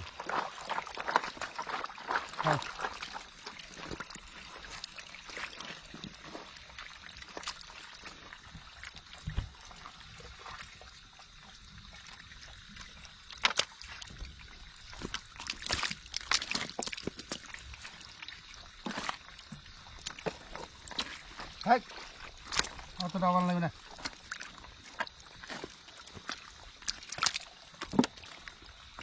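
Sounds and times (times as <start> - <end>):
shallow water trickling: 0.0 - 29.0
water splashing: 0.0 - 29.0.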